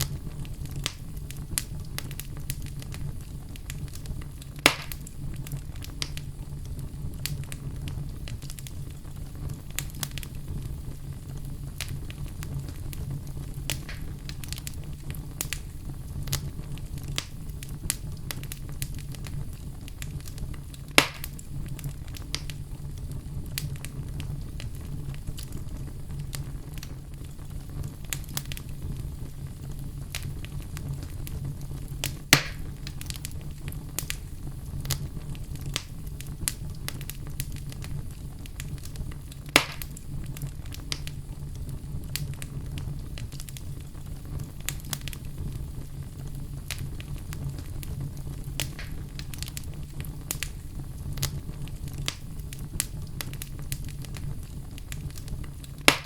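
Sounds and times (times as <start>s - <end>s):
fire pops: 0.0s - 56.0s
wood fire crackling: 0.0s - 56.0s.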